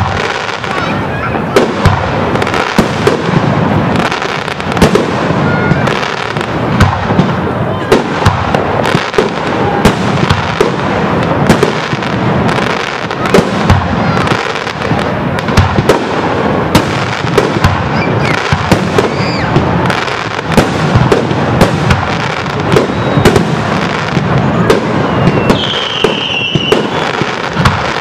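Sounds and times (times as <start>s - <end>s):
firework bangs: 0.0s - 28.0s.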